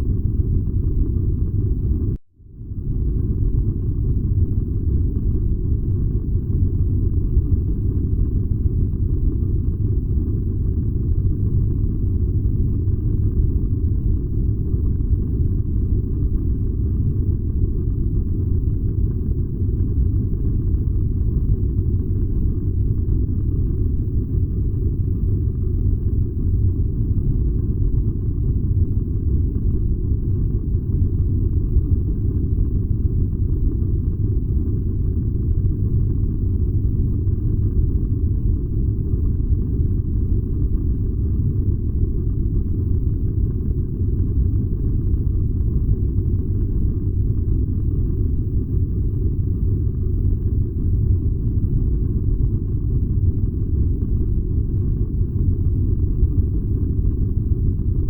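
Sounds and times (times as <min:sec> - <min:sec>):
furnace burning rumble: 0:00.0 - 0:58.0.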